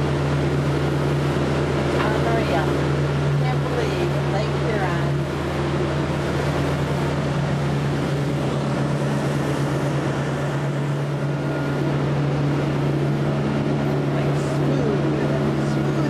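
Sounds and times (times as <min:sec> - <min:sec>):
boat engines droning: 0:00.0 - 0:16.0
water rushing along hull: 0:00.0 - 0:16.0.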